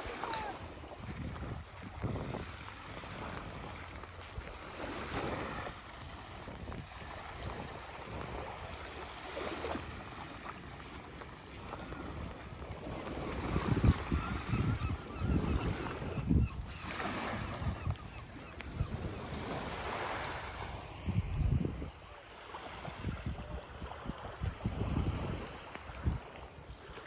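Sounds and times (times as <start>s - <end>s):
small waves on sandy shore: 0.0s - 27.0s
wind buffeting microphone: 0.1s - 8.8s, 11.8s - 20.2s, 20.8s - 22.0s, 22.8s - 26.8s.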